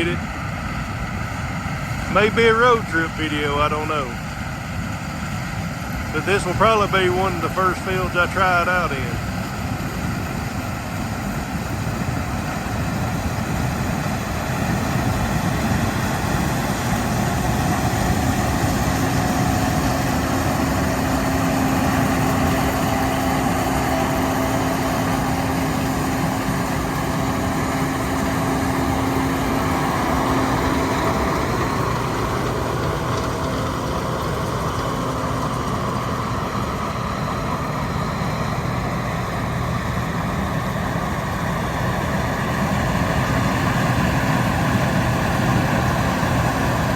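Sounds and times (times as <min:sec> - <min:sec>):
combine harvester engine drone: 0:00.0 - 0:46.9
steady hum: 0:00.0 - 0:46.9.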